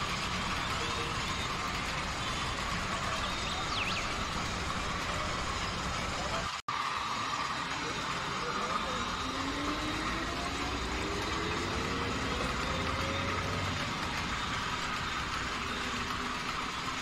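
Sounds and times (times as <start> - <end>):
model train whine: 0.0 - 17.0
steady running hum: 0.0 - 17.0.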